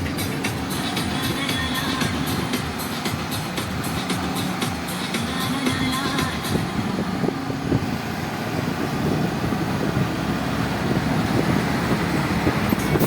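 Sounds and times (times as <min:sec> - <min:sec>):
heavy vehicle engines: 0:00.0 - 0:13.0
road traffic noise: 0:00.0 - 0:13.0.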